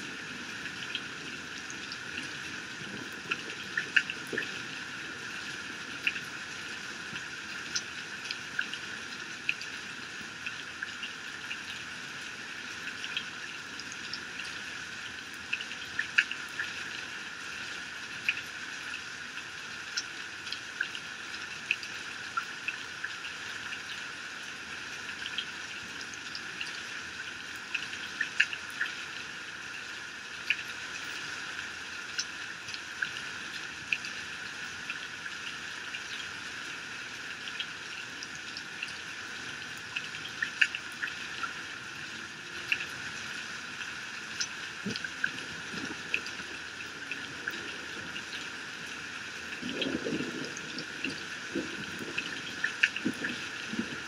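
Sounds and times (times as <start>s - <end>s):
heavy rain pouring: 0.0s - 20.9s, 25.4s - 54.0s.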